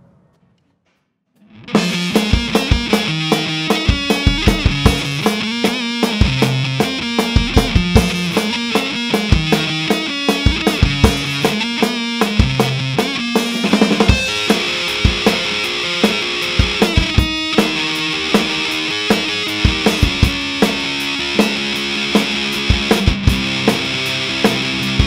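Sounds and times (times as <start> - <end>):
distorted electric guitar riff: 1.4 - 25.0
drum kit: 1.4 - 25.0.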